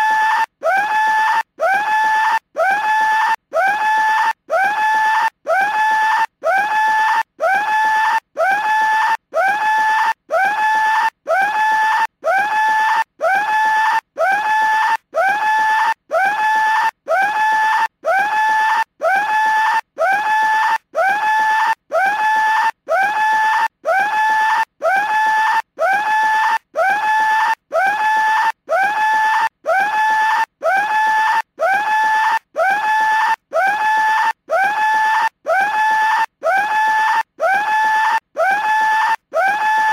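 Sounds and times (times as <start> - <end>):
toy telephone ringing with scream: 0.0 - 39.9.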